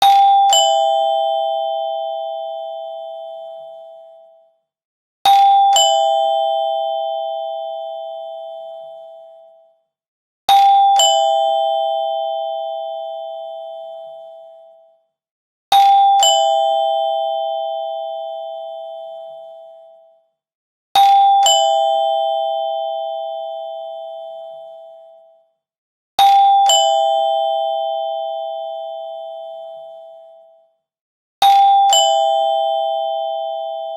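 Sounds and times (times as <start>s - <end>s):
two-tone doorbell chime: 0.0s - 4.6s, 5.3s - 9.8s, 10.5s - 15.0s, 15.8s - 20.2s, 21.0s - 25.4s, 26.2s - 30.8s, 31.4s - 33.9s.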